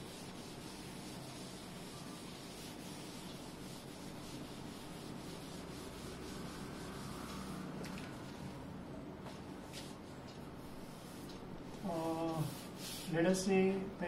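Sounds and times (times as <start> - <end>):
cloth wiping a chalkboard: 0.0 - 8.6, 9.3 - 13.8.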